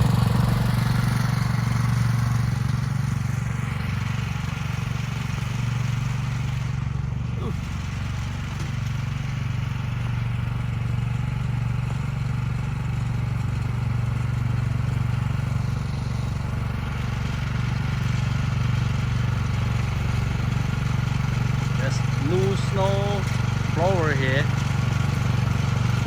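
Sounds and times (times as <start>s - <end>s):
snow blower engine running: 0.0s - 26.0s.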